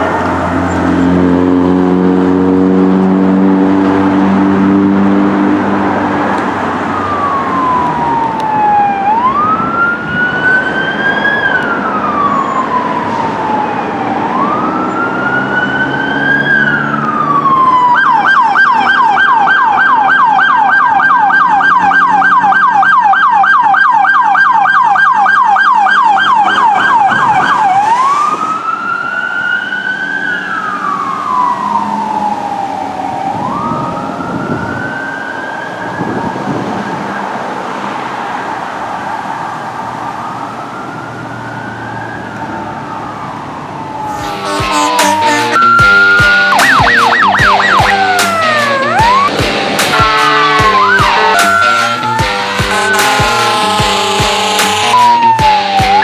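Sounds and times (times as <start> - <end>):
siren wailing: 0.0 - 37.4, 38.4 - 56.0
siren fast yelp: 6.8 - 36.6, 40.1 - 56.0.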